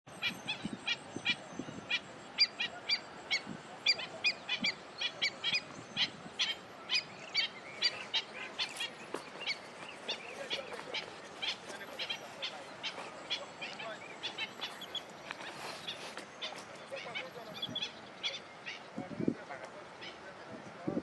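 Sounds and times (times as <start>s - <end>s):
birds calling: 0.1s - 20.8s.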